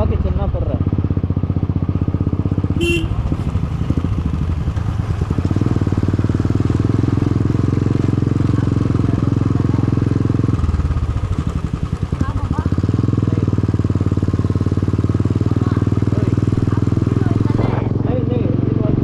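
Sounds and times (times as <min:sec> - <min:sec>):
loud motorcycle exhaust: 0:00.0 - 0:19.0.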